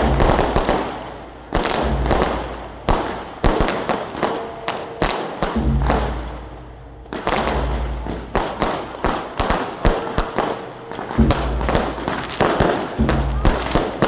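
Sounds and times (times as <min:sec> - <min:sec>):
fireworks bangs and crackles: 0:00.0 - 0:06.4, 0:07.1 - 0:14.0.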